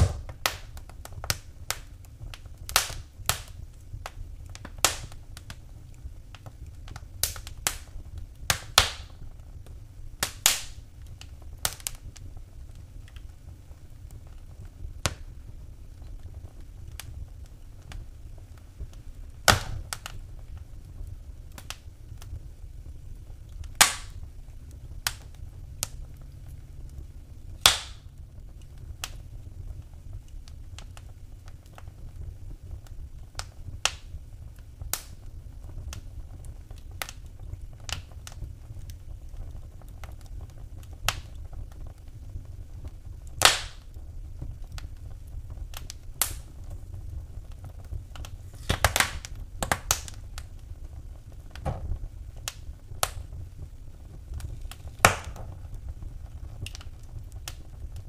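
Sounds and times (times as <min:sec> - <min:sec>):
low rumble of flames: 0:00.0 - 0:58.0
wood fire pops and snaps: 0:00.0 - 0:58.0.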